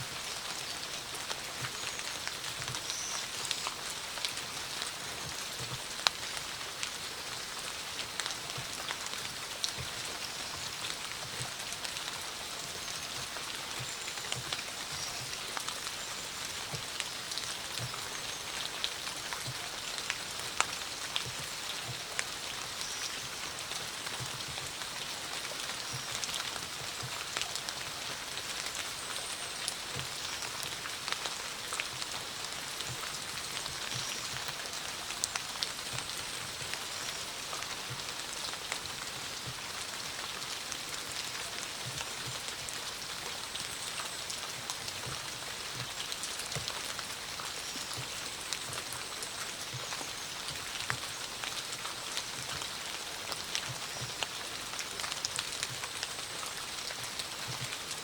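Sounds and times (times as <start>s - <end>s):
raindrops ticking: 0.1s - 58.0s.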